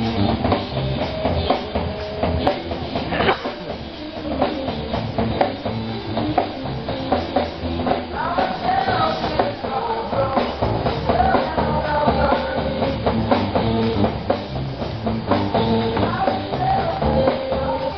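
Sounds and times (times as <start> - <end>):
drum kit beat: 0.0 - 17.9
guitar: 0.0 - 17.9
held melody line: 0.0 - 17.9.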